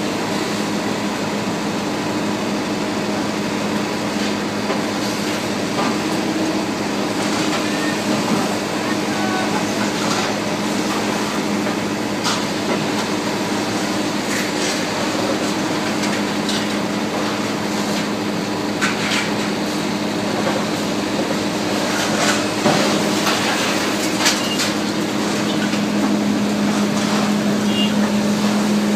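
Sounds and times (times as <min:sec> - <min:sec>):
diesel engines running: 0:00.0 - 0:28.9.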